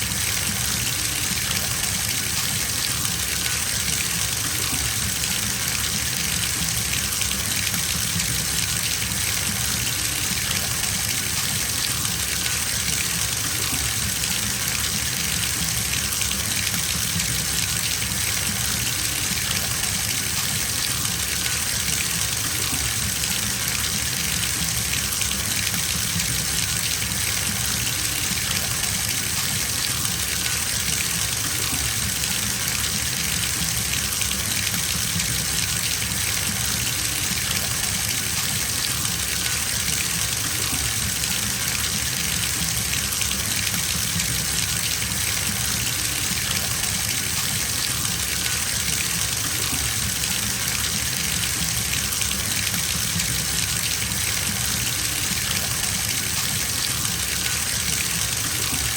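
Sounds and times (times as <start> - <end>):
tap water pouring into bathtub: 0.0 - 58.9.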